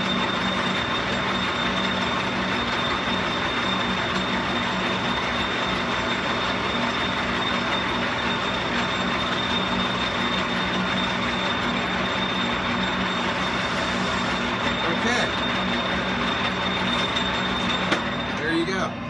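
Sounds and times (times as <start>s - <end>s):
metal lathe humming and whining: 0.0s - 19.0s.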